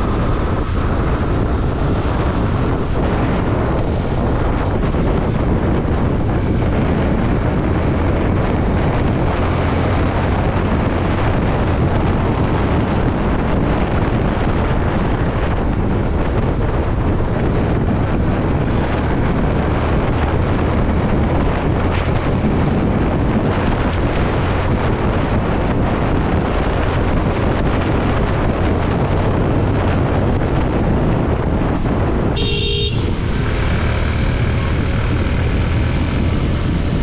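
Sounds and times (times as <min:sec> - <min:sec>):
motorcycle engine running: 0:00.0 - 0:37.0
wind rush on microphone: 0:00.0 - 0:37.0.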